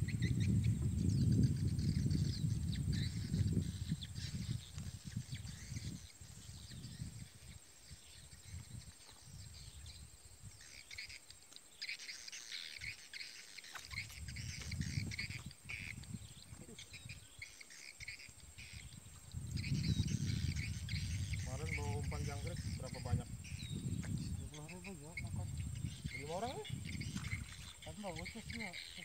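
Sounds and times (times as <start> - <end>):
insects calling: 0.0 - 29.0
small birds chirping: 0.0 - 29.0.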